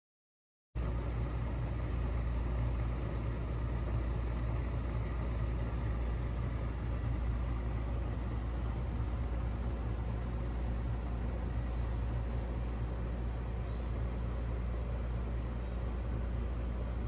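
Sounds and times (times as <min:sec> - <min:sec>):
bottle warmer humming: 0:00.8 - 0:17.0.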